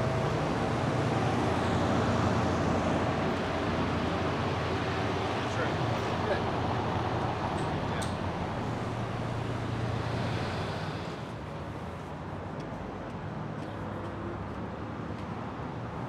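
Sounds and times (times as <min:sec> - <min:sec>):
steady traffic hum: 0:00.0 - 0:16.0.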